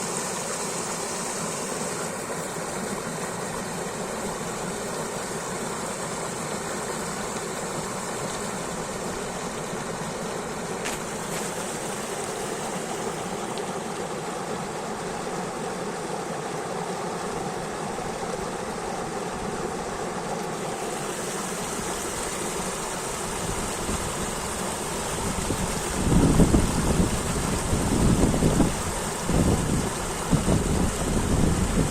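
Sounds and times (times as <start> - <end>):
river rushing water: 0.0 - 31.9.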